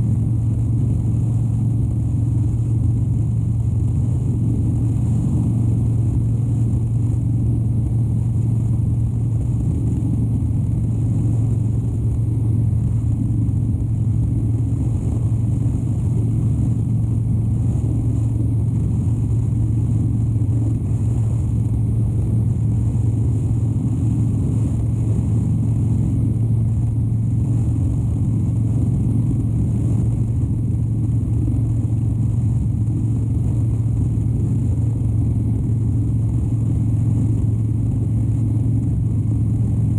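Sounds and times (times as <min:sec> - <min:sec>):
motorcycle engine cruising: 0:00.0 - 0:39.9
road noise: 0:00.0 - 0:39.9.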